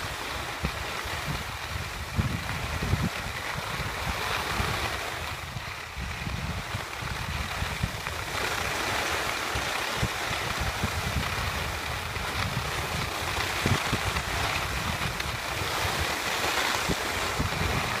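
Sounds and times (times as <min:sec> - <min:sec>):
skis hissing over snow: 0:00.0 - 0:18.0
wind buffeting microphone: 0:00.0 - 0:18.0.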